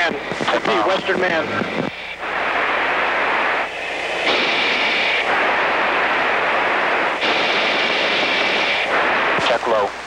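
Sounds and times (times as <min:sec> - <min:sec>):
radio intercom hiss: 0:00.0 - 0:10.0
radio static: 0:00.0 - 0:10.0.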